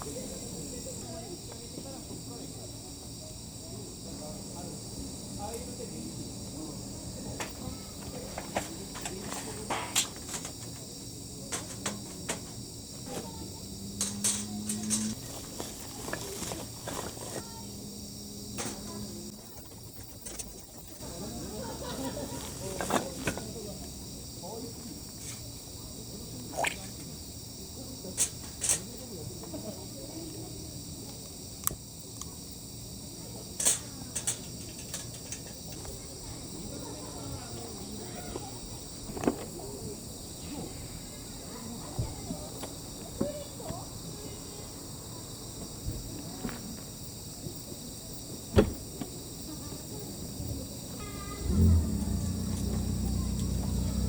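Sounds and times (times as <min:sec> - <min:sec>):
crickets trilling: 0:00.0 - 0:54.0
night insects chirping: 0:00.0 - 0:54.0.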